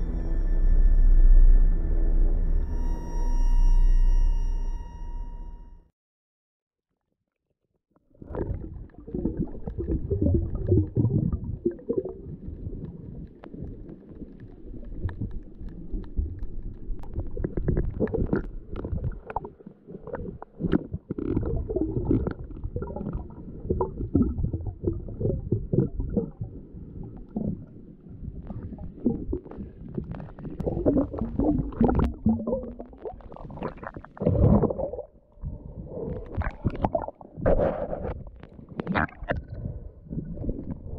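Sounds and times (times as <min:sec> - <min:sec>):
underwater sloshing and gurgling: 0:08.0 - 0:40.9.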